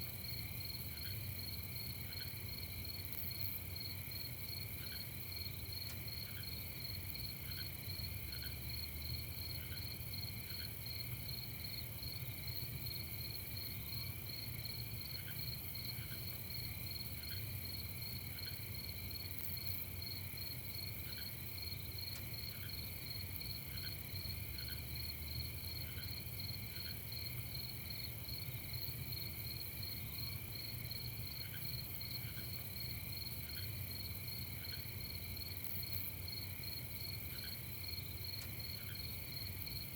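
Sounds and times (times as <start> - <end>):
crickets trilling: 0.2 - 39.9.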